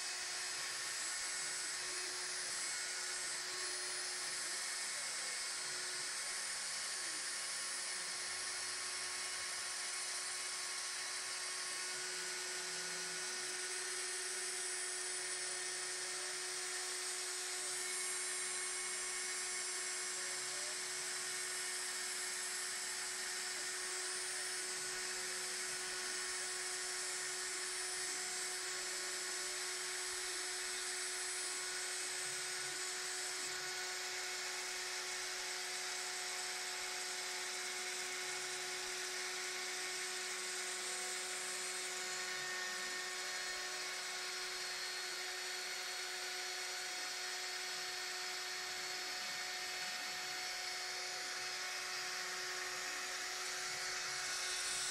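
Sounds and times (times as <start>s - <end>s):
router spindle whining: 0.0s - 54.9s.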